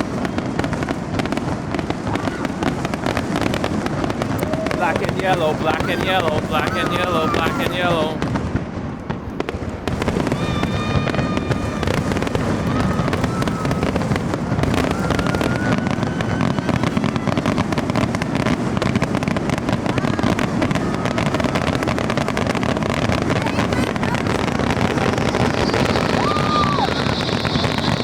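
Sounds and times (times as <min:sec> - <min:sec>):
fireworks crackling and banging: 0:00.0 - 0:28.0
fireworks whistling: 0:00.0 - 0:28.0.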